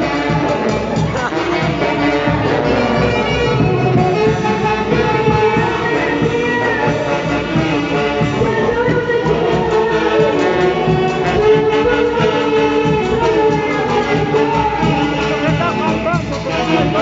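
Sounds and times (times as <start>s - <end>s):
band playing wind instruments: 0.0s - 17.0s.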